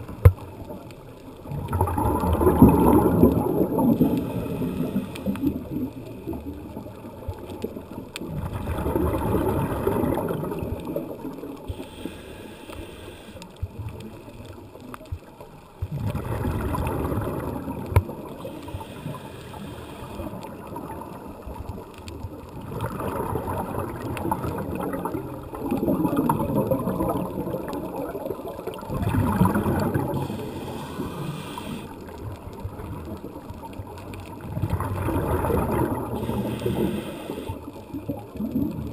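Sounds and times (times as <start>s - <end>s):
underwater exhaust bubbles rushing: 0.0s - 12.1s, 13.6s - 38.9s.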